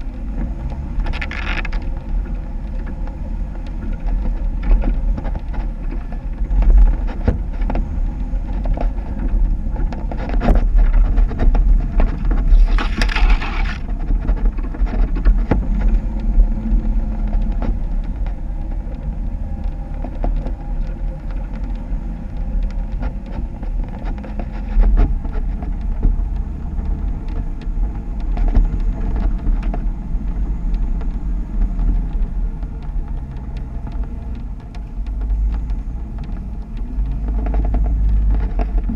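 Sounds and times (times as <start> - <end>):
vehicle engine rumble: 0.0 - 38.9.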